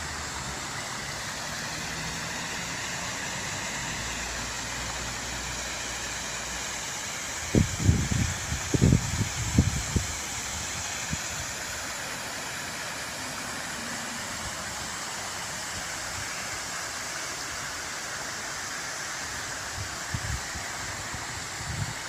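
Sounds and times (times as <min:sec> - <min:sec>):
water fountain splashing: 0:00.0 - 0:22.0.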